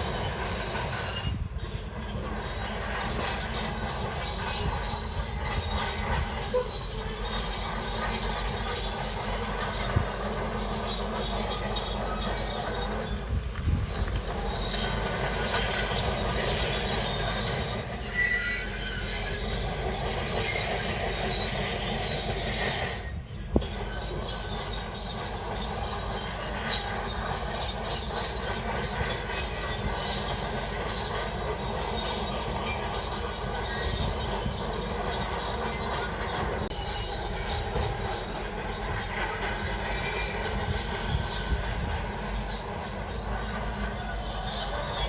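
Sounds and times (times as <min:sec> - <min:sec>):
bulldozer engine running: 0:00.0 - 0:45.0
bulldozer tracks squealing and clanking: 0:00.0 - 0:45.0.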